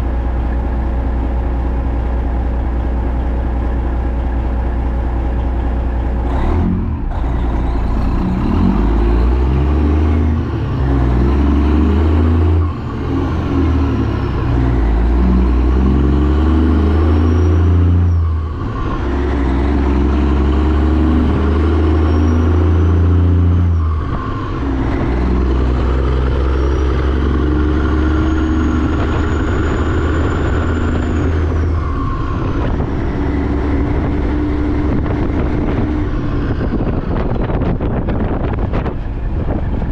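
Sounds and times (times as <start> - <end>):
diesel truck engine shifting gears: 0.0 - 39.9.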